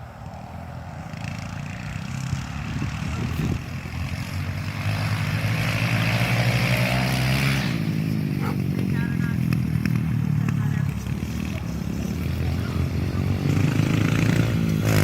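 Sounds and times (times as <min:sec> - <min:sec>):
dirt bike engines buzzing: 0:00.0 - 0:15.0.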